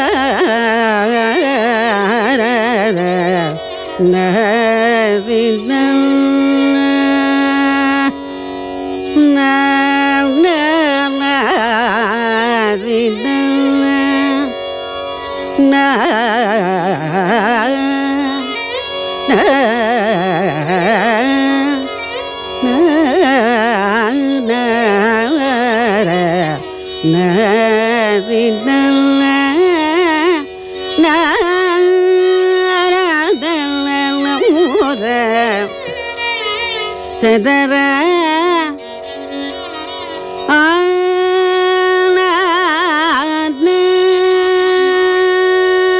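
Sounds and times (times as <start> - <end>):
classical melody with sliding notes: 0.1 - 45.9.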